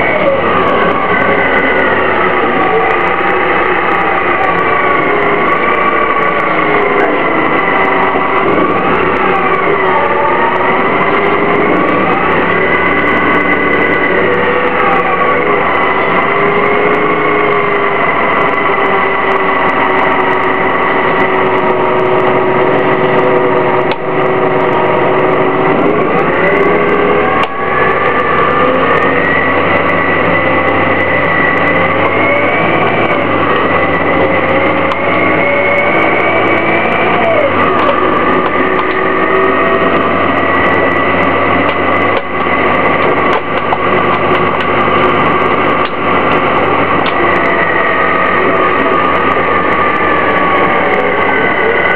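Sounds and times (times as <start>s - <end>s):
bus engine and drivetrain whine: 0.0s - 51.9s.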